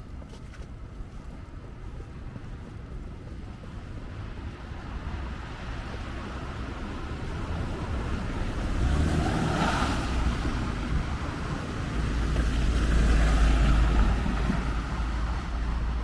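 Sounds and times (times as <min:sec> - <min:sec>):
vehicles passing on slushy street: 0:00.0 - 0:16.0
wind rumble on microphone: 0:00.0 - 0:16.0.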